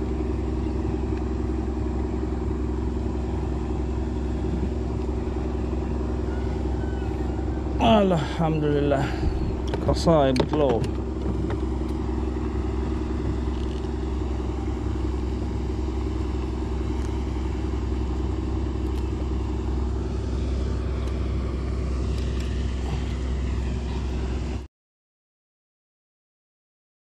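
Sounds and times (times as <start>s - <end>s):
low rumble: 0.0s - 24.7s
motor hum: 0.0s - 24.7s.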